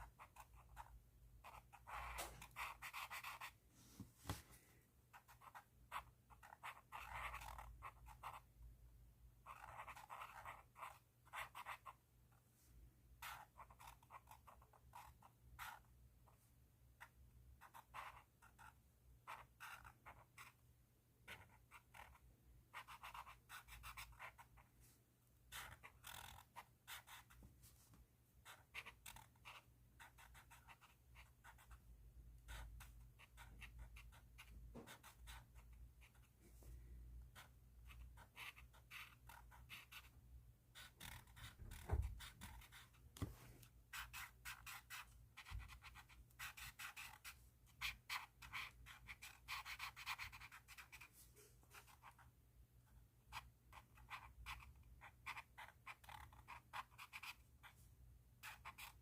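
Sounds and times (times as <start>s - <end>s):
pen scratching on paper: 0.0s - 3.6s, 5.1s - 8.5s, 9.4s - 12.0s, 13.2s - 16.4s, 17.0s - 20.6s, 21.2s - 24.8s, 25.5s - 27.5s, 28.4s - 36.4s, 37.2s - 52.3s, 53.3s - 57.8s, 58.4s - 59.0s.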